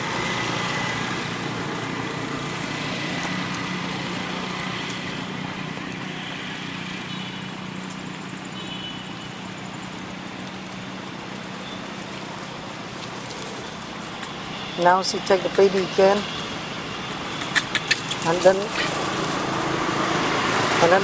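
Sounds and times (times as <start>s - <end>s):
outdoor background hum and hiss: 0.0s - 21.0s.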